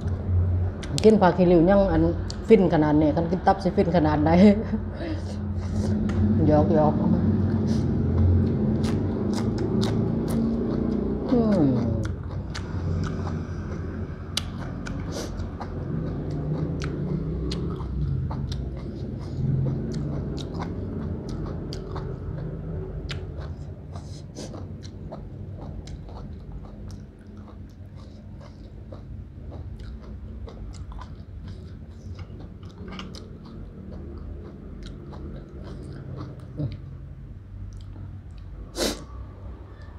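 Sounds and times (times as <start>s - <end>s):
chewing with wet mouth clicks: 0.0s - 1.2s, 2.2s - 2.5s, 7.4s - 37.0s, 37.6s - 38.6s.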